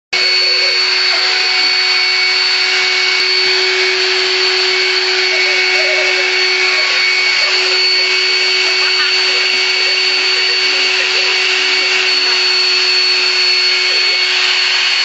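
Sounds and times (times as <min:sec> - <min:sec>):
electric motor humming and whining: 0:00.1 - 0:15.0.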